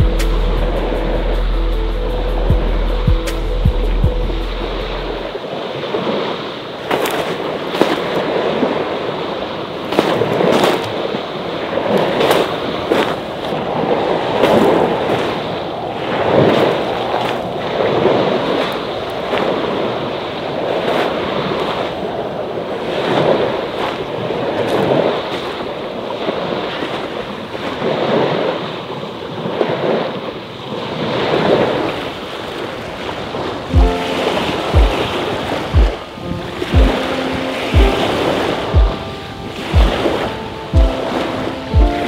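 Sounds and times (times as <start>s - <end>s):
sea waves washing onto shore: 0.0s - 42.0s.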